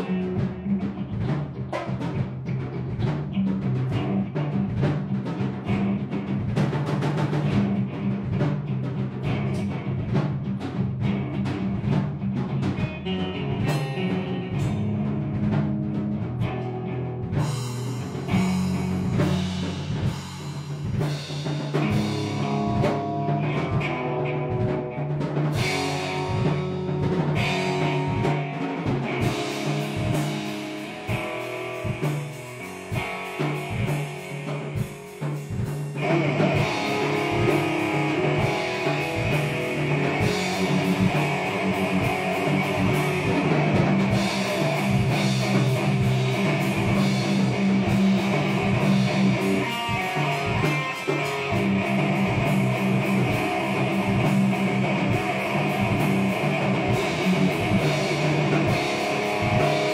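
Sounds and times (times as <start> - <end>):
drum kit beat: 0.0 - 59.9
electric guitar: 0.0 - 59.9.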